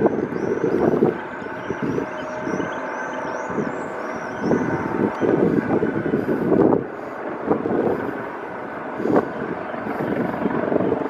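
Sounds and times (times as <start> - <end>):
helicopter engines and rotor: 0.0 - 11.0
thin steady whine: 0.0 - 11.0.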